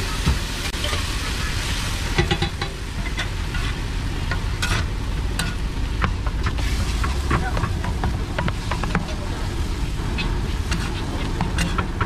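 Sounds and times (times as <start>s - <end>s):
frying sizzle: 0.0s - 12.0s
steady low rumble: 0.0s - 12.0s
metal spatula scraping griddle: 2.2s - 12.0s.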